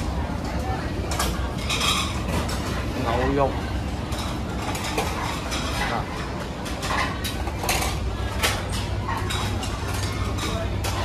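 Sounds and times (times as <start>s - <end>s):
background chatter: 0.0s - 11.0s
dishes and cutlery clinking: 0.4s - 11.0s.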